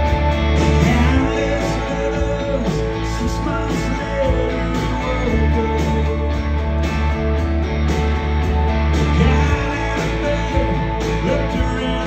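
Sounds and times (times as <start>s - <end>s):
bass: 0.0s - 12.0s
drums: 0.0s - 12.0s
electric guitars: 0.0s - 12.0s.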